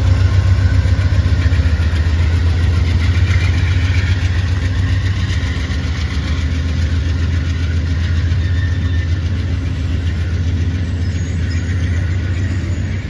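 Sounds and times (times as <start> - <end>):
locomotive low drone: 0.0 - 13.0
train coaches rolling on track: 0.0 - 13.0.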